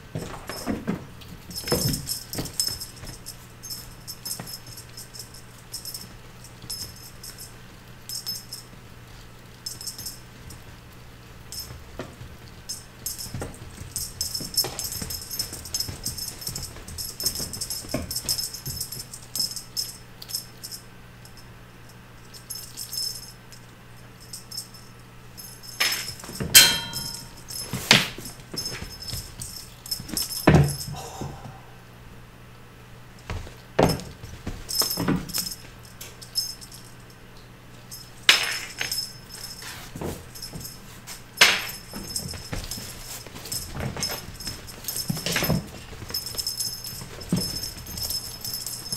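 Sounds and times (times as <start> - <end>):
paws thudding and scrabbling: 0.0 - 19.9, 25.4 - 31.5, 33.2 - 37.0, 38.7 - 48.9
light jingling and rattling: 0.0 - 31.4, 33.2 - 48.9
steady low hum: 0.0 - 48.9.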